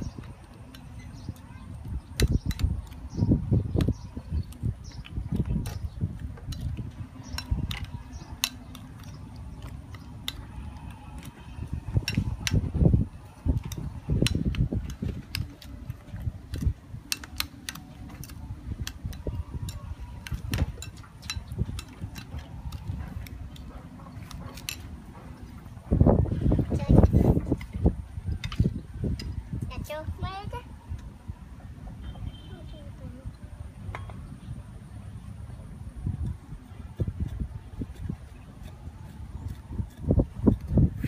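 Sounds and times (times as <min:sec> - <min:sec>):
low steady rumble: 0:00.0 - 0:41.0.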